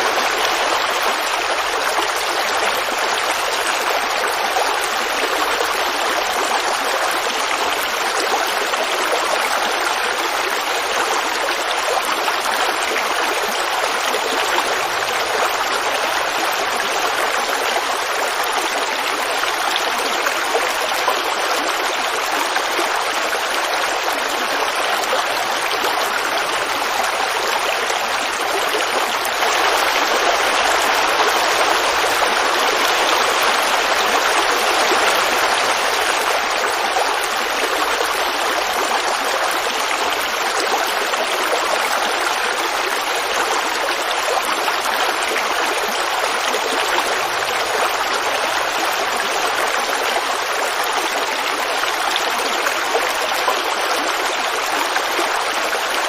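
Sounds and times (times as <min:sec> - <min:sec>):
creek babbling over stones: 0:00.0 - 0:56.0.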